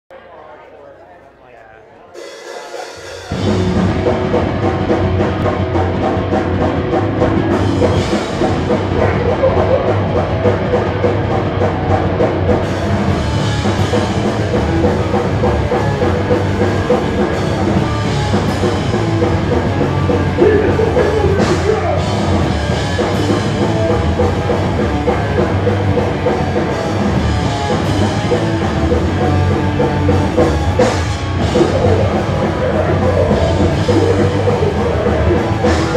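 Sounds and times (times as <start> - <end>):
live rock band playing loudly: 2.2 - 35.9.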